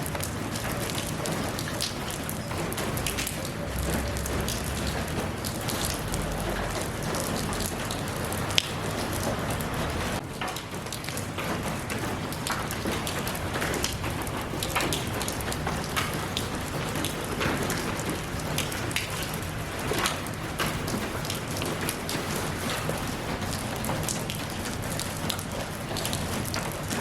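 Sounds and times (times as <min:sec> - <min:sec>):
rain drops pattering: 0:00.0 - 0:27.0.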